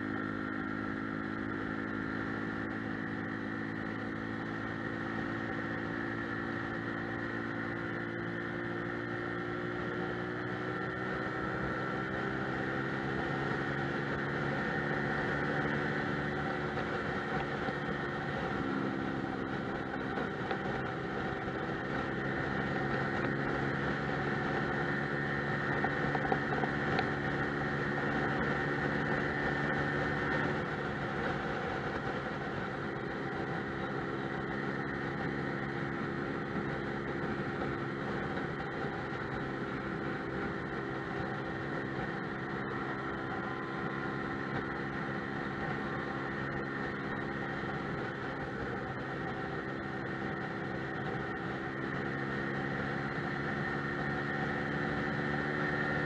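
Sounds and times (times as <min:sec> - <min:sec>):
road noise: 0:00.0 - 0:56.0
scooter engine running: 0:00.0 - 0:56.0.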